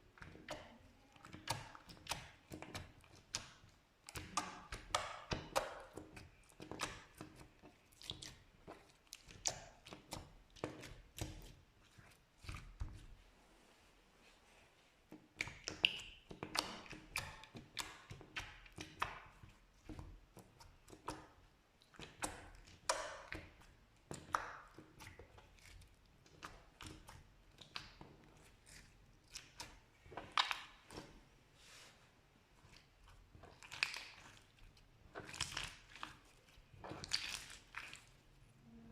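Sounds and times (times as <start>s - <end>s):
slime squishing with wet pops: 0.0s - 13.2s, 15.0s - 38.8s.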